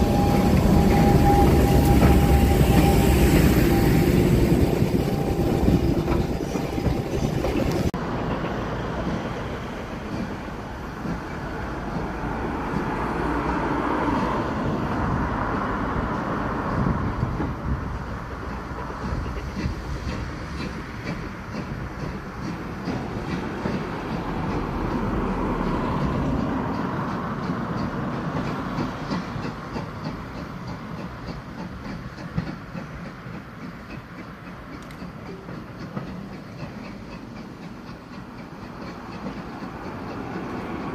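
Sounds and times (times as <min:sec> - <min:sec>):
wheels clicking over rail joints: 0:00.0 - 0:40.9.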